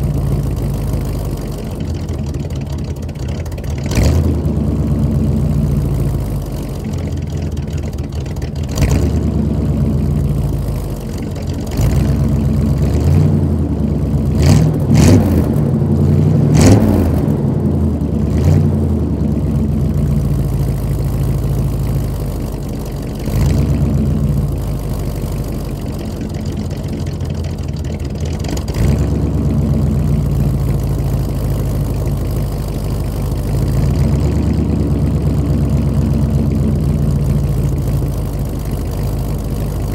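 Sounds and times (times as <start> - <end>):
pickup engine idling: 0.0 - 39.9
engine revving: 3.7 - 7.6, 8.6 - 39.9.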